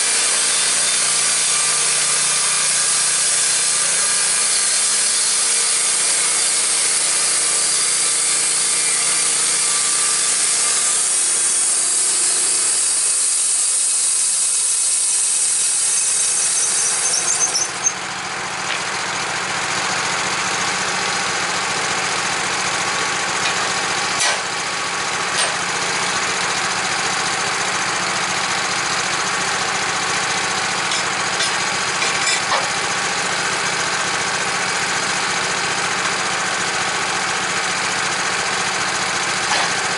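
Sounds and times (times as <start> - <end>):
motor-driven machine running: 0.0 - 39.9.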